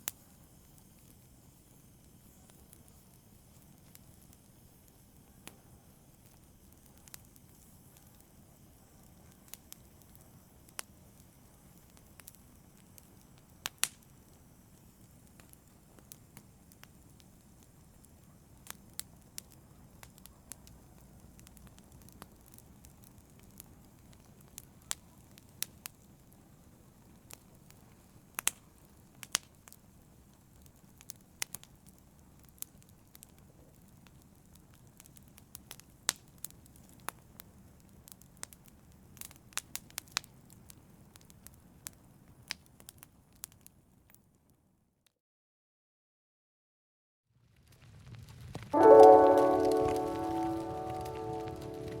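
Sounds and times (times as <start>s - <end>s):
low rumble of burning logs: 0.0s - 44.6s, 47.4s - 48.8s
wood fire crackling: 0.0s - 44.6s, 47.6s - 52.0s.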